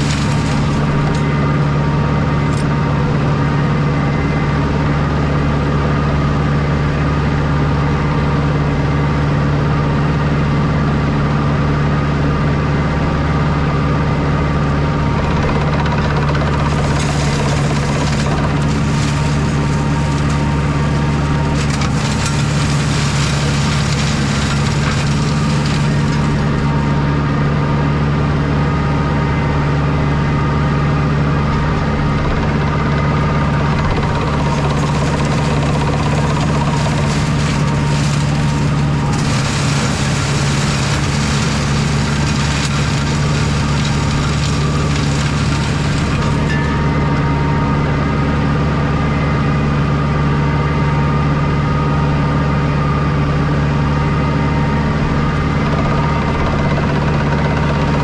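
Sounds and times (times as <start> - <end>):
flail mulcher shredding brush: 0.0 - 58.0
tractor engine under load: 0.0 - 58.0.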